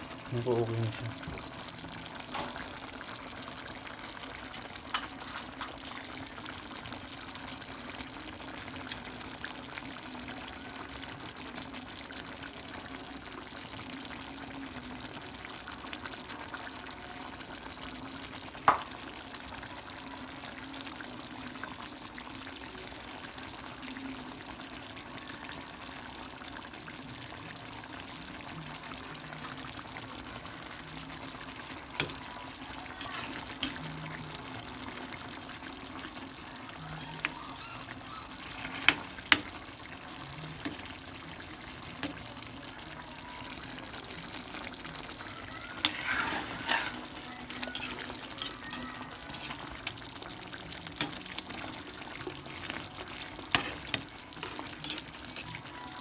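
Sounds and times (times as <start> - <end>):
sauce bubbling and sizzling in pan: 0.0 - 56.0.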